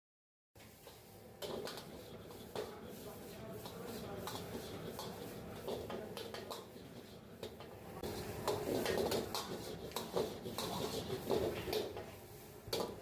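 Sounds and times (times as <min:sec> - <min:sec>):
utensils clattering against a pan: 0:00.8 - 0:12.1, 0:12.7 - 0:13.0.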